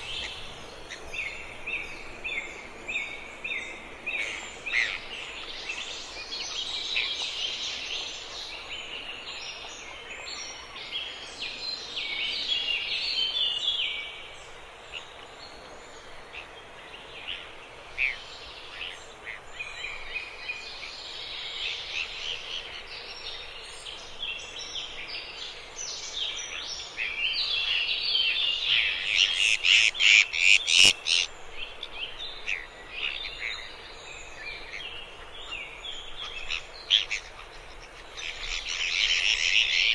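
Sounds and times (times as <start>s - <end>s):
birds calling in chorus: 0.0s - 14.2s, 16.0s - 39.9s
faint background hiss: 0.0s - 39.9s.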